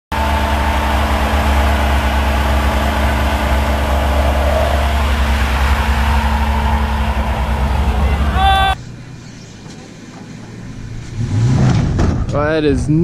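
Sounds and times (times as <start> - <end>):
truck engine droning: 0.1 - 13.0.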